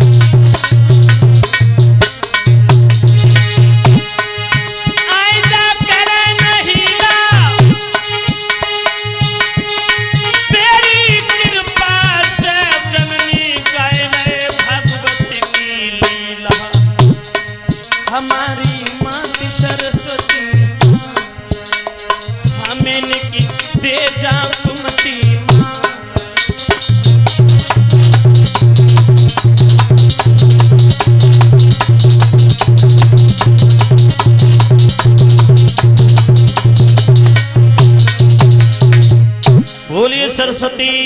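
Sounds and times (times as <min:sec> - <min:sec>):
hand drum beat: 0:00.0 - 0:39.8
harmonium: 0:00.0 - 0:41.0.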